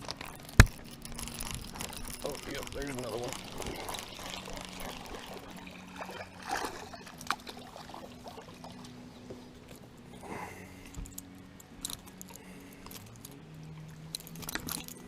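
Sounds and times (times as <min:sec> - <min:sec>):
steady low hum: 0:00.0 - 0:15.0
water trickling and splashing: 0:00.0 - 0:15.0.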